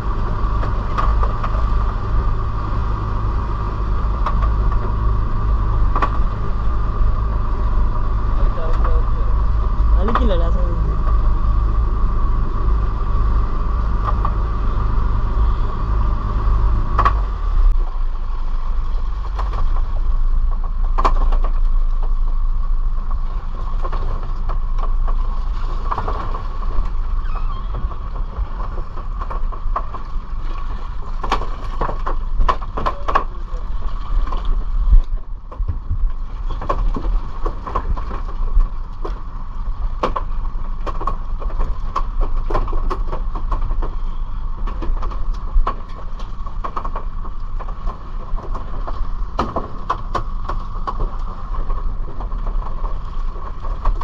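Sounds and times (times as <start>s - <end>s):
boat engine rumbling with whine: 0.0s - 54.0s.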